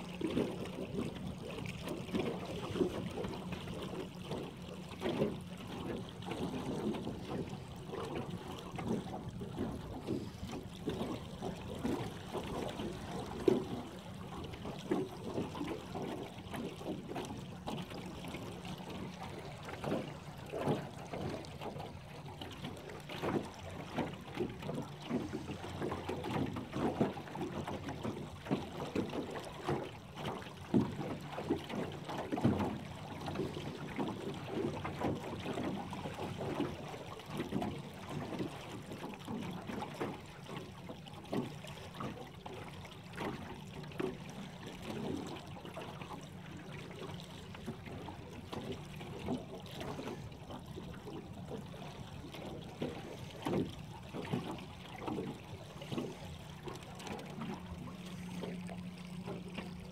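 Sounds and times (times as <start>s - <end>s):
boat motor humming: 0.0s - 59.9s
water lapping against boat hull: 0.0s - 59.9s.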